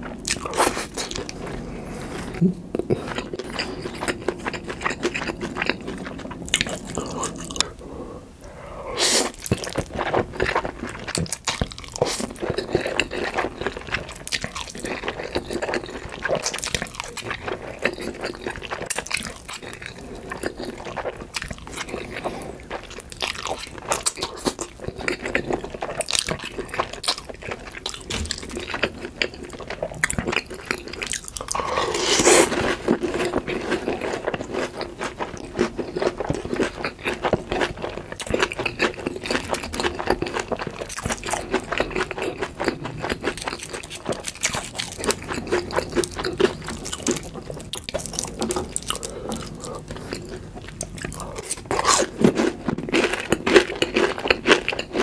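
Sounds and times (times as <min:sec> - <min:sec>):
person chewing crunchy food: 0:00.0 - 0:07.9, 0:08.5 - 0:55.0.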